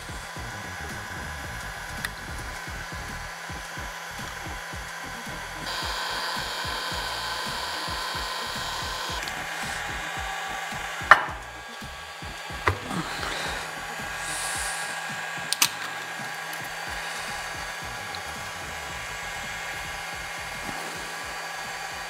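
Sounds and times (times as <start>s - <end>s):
heat gun blowing: 0.0s - 22.0s
heat gun whine: 0.0s - 22.0s.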